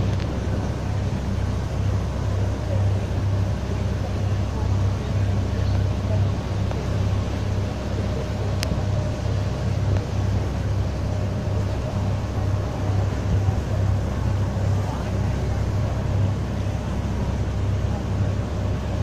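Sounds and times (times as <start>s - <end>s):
boat engine droning: 0.0s - 19.0s
water rushing in wake: 0.0s - 19.0s.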